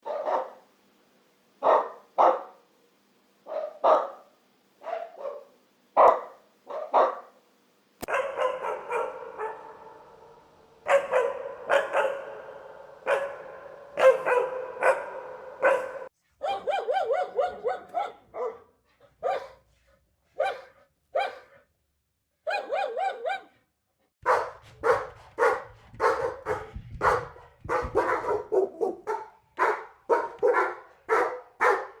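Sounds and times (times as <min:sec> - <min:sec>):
dog barking: 0:00.0 - 0:00.7, 0:01.6 - 0:02.7, 0:03.4 - 0:07.4, 0:08.0 - 0:19.7, 0:20.4 - 0:21.7, 0:22.4 - 0:32.0.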